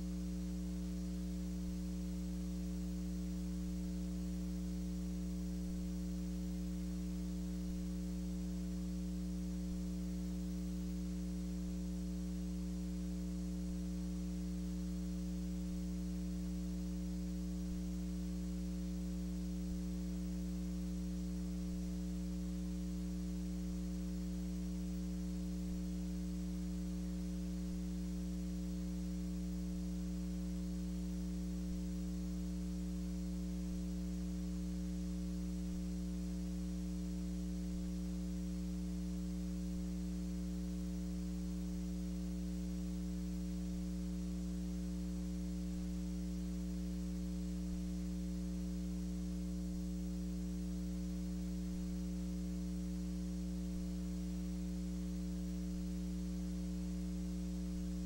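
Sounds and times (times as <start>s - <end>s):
electrical mains hum: 0.0s - 58.0s
faint buzz and hiss: 0.0s - 58.0s.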